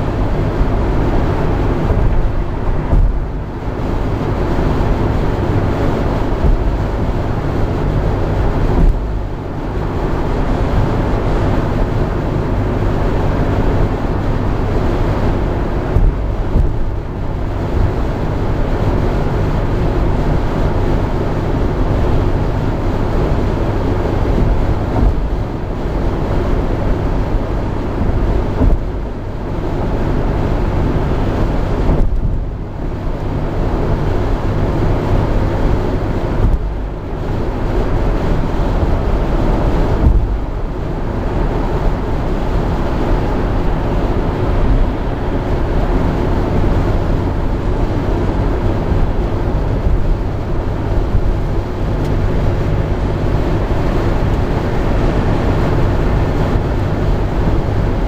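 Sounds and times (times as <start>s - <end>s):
car cabin road noise: 0.0s - 58.0s
wind noise: 0.0s - 58.0s.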